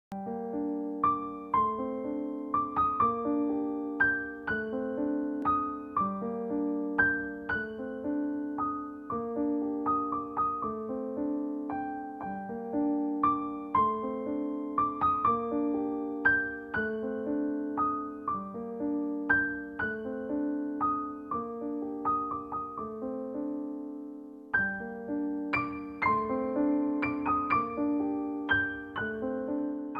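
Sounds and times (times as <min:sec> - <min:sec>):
solo piano music: 0:00.1 - 0:29.9.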